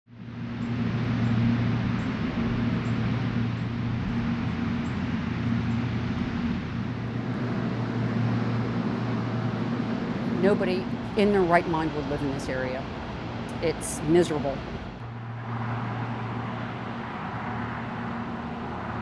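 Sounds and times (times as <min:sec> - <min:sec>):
cooling fans rushing: 0:00.1 - 0:19.0
low hum: 0:00.1 - 0:19.0.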